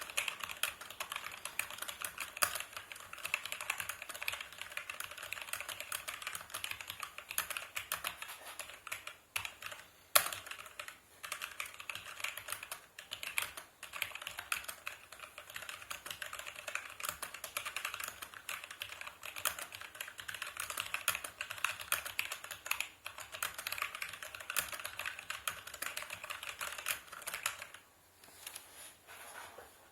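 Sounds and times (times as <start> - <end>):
mechanical keyboard typing: 0.0 - 27.8.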